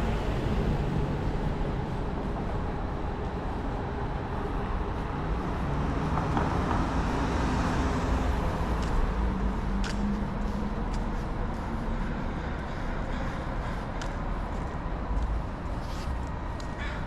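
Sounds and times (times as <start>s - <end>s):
vehicle engines passing: 0.0s - 17.0s.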